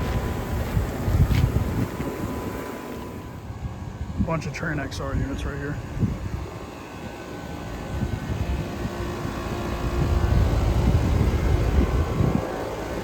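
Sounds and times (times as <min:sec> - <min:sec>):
air conditioner fan whoosh: 0:00.0 - 0:13.0
low hum: 0:00.0 - 0:13.0.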